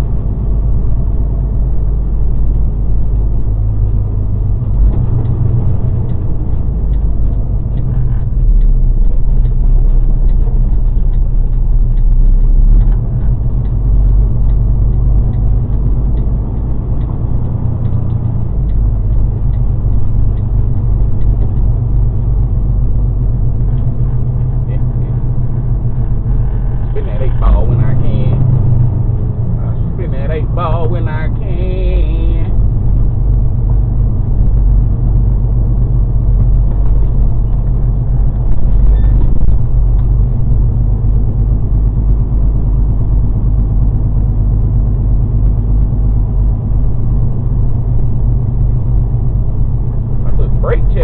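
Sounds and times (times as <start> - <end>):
vehicle engine and road noise: 0.0 - 51.0.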